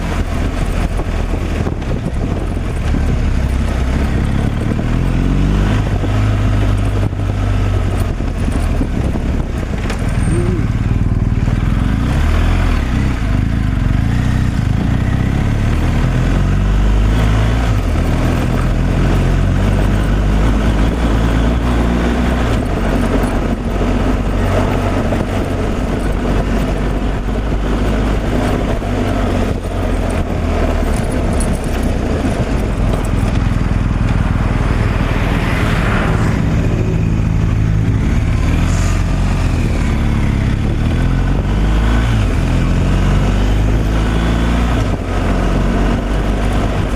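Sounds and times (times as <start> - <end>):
road noise: 0.0 - 46.9
vehicle engine drone: 0.0 - 46.9.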